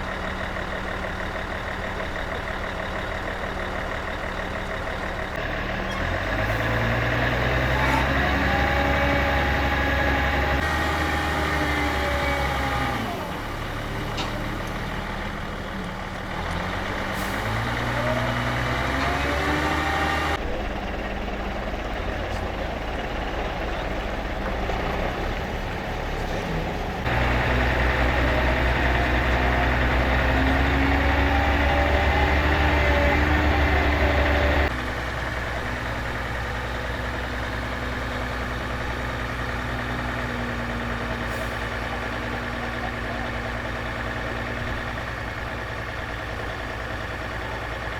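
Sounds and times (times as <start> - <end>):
engine running: 0.0 - 47.9.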